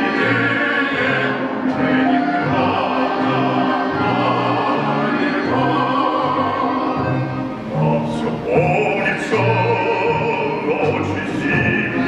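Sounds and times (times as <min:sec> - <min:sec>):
folk string orchestra playing: 0:00.0 - 0:12.0.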